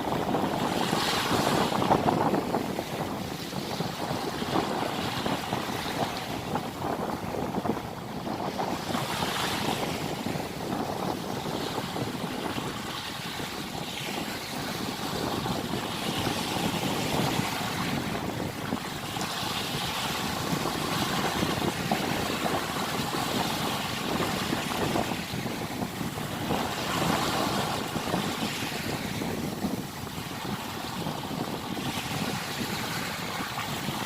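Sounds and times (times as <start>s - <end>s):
waves splashing: 0.0s - 34.0s
wind on microphone: 0.0s - 34.0s.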